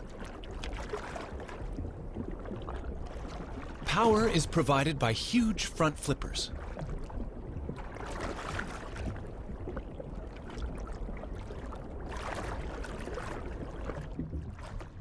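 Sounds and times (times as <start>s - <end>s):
underwater rush of water: 0.0s - 15.0s.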